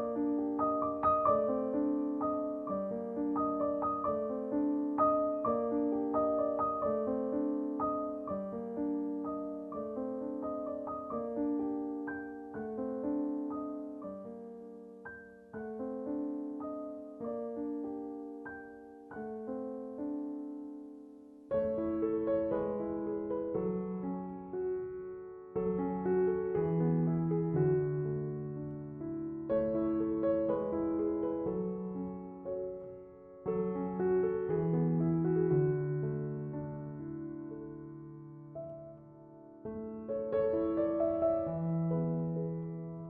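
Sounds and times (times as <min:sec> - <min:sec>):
soft solo piano music: 0:00.0 - 0:43.0.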